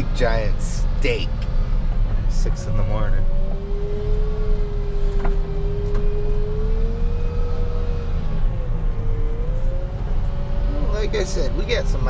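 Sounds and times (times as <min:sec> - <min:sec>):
engine whine: 0:00.0 - 0:12.0.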